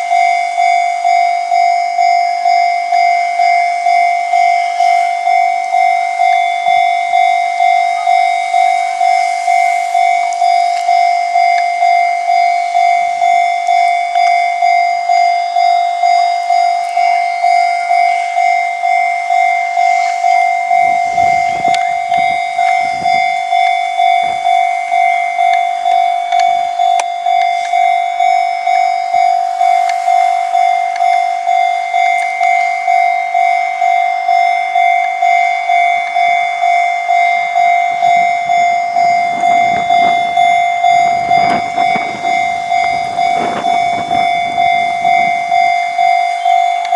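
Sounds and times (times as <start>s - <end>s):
level crossing electronic bell: 0.0s - 46.9s.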